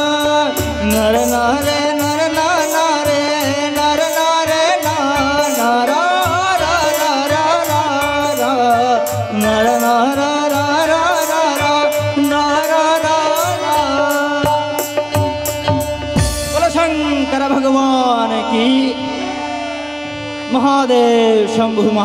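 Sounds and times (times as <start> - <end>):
keyboard: 0.0 - 22.0
ornamented melody line: 0.0 - 22.0
tabla beat: 0.0 - 22.0.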